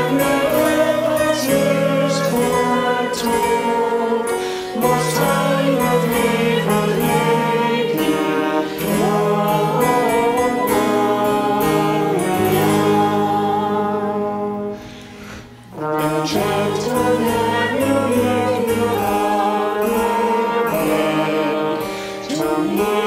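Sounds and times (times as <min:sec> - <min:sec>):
slow music of held notes: 0:00.0 - 0:23.0.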